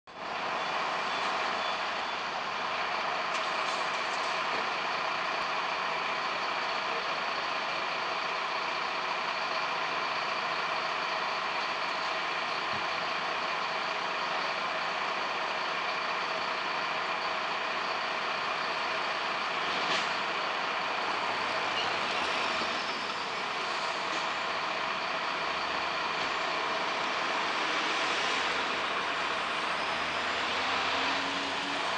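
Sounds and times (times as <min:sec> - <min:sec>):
street and engine noise: 0:00.1 - 0:31.9.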